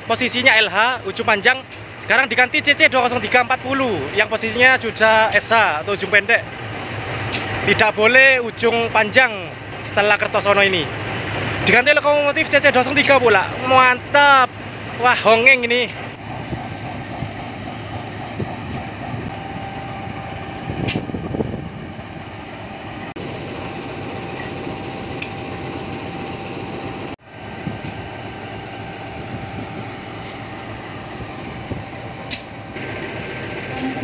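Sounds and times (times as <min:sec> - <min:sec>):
passenger train running: 0:00.0 - 0:34.0.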